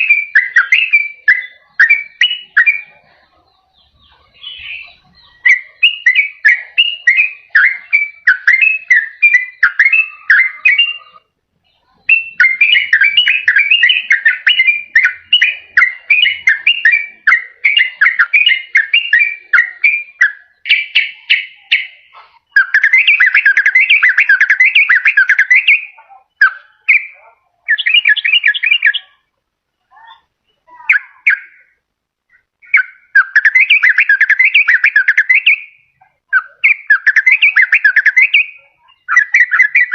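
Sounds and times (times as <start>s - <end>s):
bird singing whistled notes: 0.0s - 29.3s, 30.5s - 39.9s.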